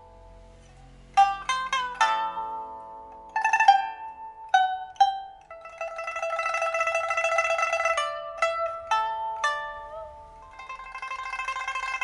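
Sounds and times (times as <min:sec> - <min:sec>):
pipa plucked notes and tremolo: 0:00.0 - 0:12.0.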